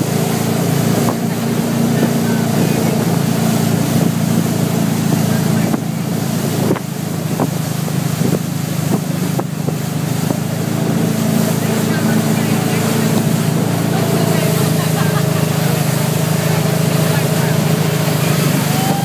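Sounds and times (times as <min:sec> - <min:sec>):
motorboat engine running: 0:00.0 - 0:19.0
rush of boat wake: 0:00.0 - 0:19.0
wind buffeting microphone: 0:00.0 - 0:19.0.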